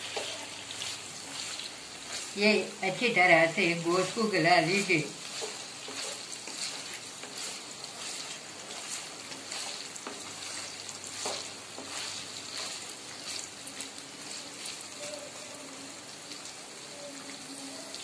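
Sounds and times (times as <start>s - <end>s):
meat sizzling in oil: 0.0s - 18.0s
wooden spatula stirring: 0.0s - 18.0s.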